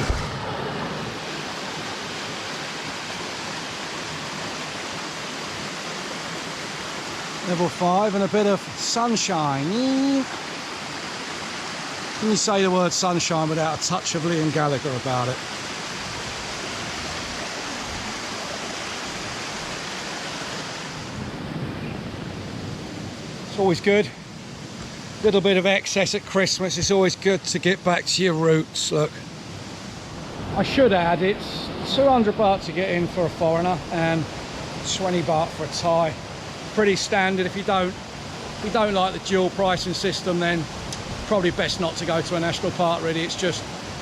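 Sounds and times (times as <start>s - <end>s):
waterfall rushing over rock: 0.0s - 21.2s, 22.8s - 44.0s.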